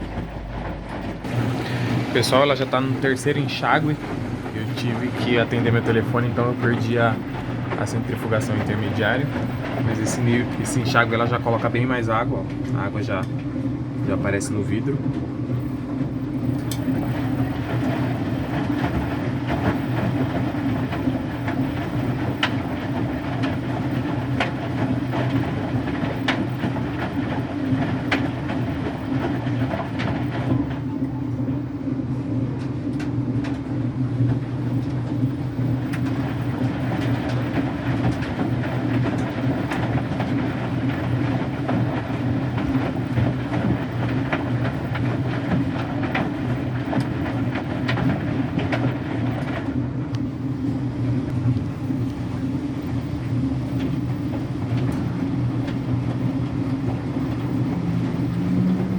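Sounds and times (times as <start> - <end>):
washing machine tumbling laundry: 0.0 - 58.9.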